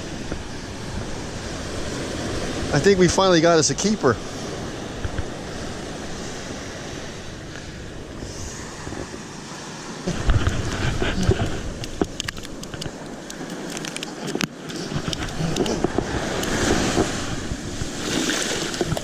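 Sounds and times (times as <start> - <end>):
ocean surf: 0.0 - 19.0
wind buffeting the microphone: 0.0 - 19.0.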